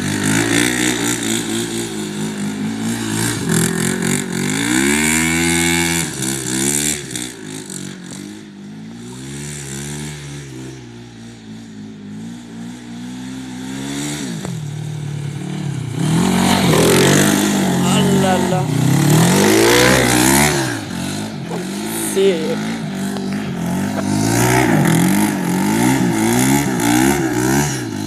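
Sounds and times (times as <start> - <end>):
quad engine revving: 0.0 - 28.0.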